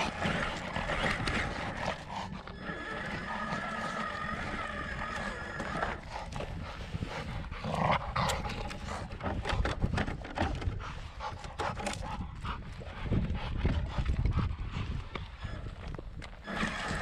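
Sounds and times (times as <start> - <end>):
dog panting: 0.0 - 3.2, 5.2 - 15.8.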